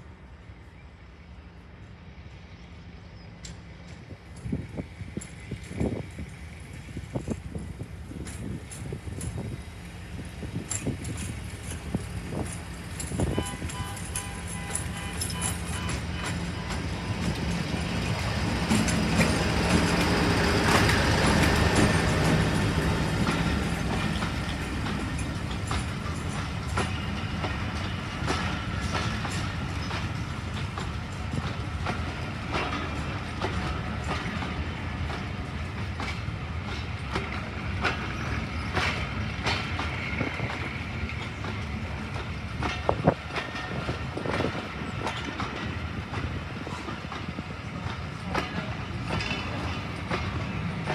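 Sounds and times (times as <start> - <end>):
diesel locomotive engine hum: 0.0 - 50.9
train wheels clicking over rail joints: 3.4 - 50.9.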